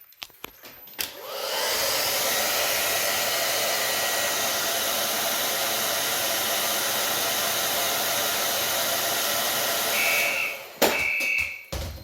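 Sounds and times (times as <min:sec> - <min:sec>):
hair dryer blowing: 0:01.0 - 0:11.2.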